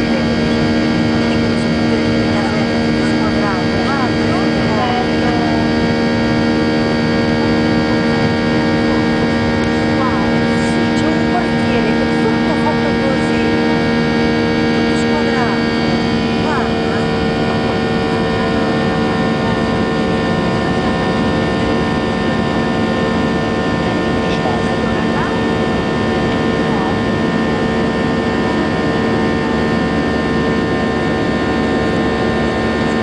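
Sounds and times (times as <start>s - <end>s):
jet engine drone: 0.0s - 33.0s.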